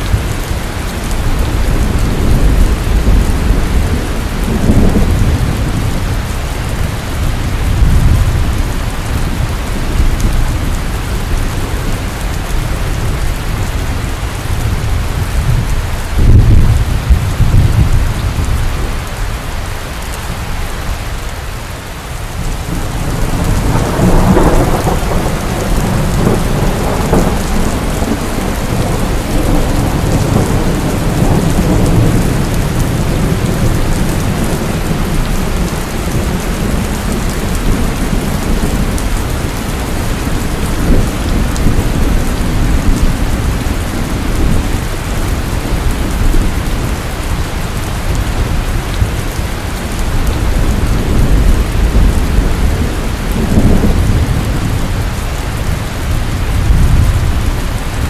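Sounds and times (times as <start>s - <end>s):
rolling thunder: 0.0s - 19.0s, 22.4s - 58.0s
heavy rain falling: 0.0s - 58.0s.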